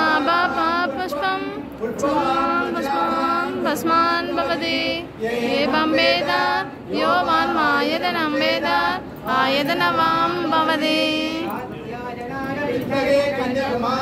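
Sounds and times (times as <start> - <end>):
woman singing unaccompanied: 0.0 - 11.6.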